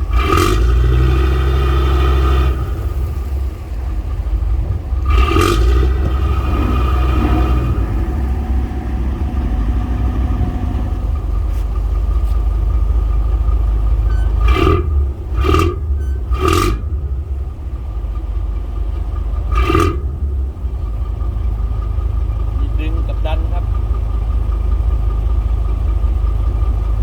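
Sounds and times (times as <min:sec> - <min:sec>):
boat engine rumbling: 0:00.0 - 0:27.0.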